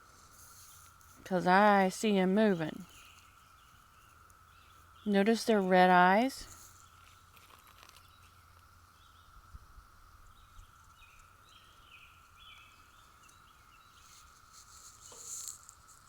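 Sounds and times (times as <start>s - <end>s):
cicada chorus drone: 0.2s - 16.0s.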